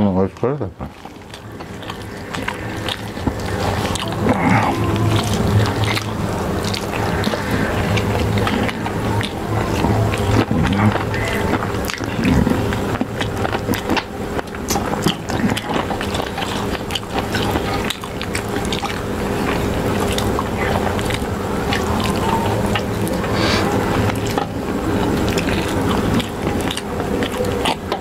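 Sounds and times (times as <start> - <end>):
chewing and lip smacks: 0.4 - 28.0
low hum: 0.7 - 28.0.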